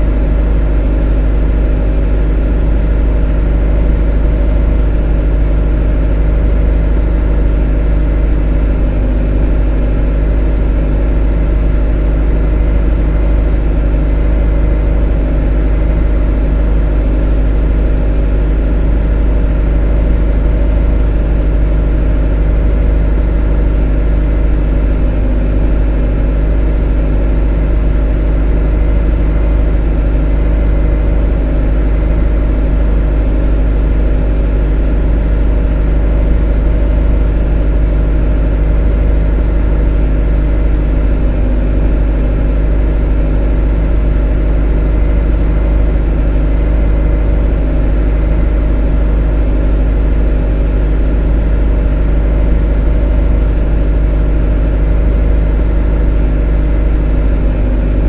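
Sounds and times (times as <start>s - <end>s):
motor running steadily: 0.0s - 58.0s.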